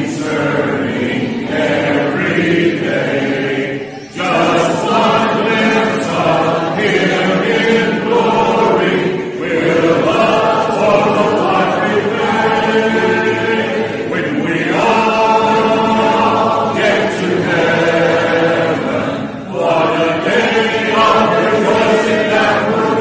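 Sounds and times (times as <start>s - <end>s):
mixed voices singing a hymn: 0.0s - 23.0s.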